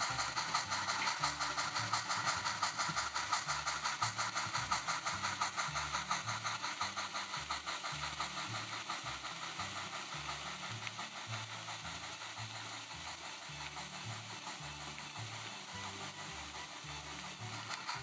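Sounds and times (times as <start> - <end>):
low hum of model train: 0.0 - 18.0
rhythmic steam chuff: 0.0 - 18.0.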